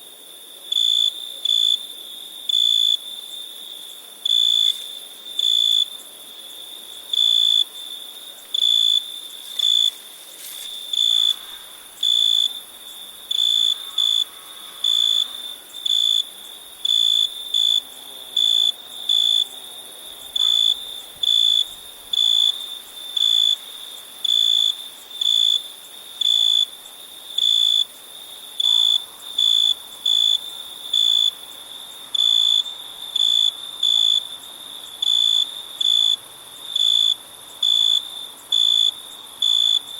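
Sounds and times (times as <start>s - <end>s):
cricket chirping: 0.0s - 39.9s
high-pitched insect trill: 0.8s - 39.9s.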